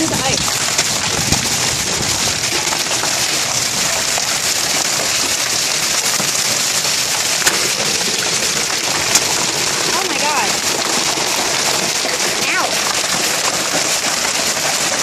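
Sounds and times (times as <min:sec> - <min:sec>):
hail and heavy rain falling: 0:00.0 - 0:15.0.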